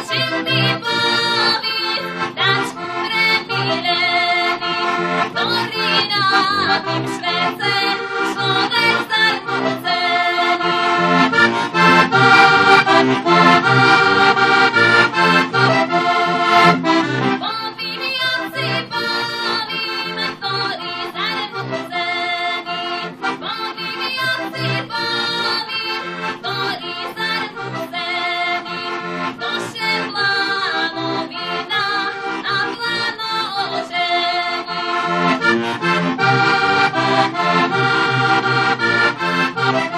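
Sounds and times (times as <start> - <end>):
accordion playing folk dance tune: 0.0 - 39.9.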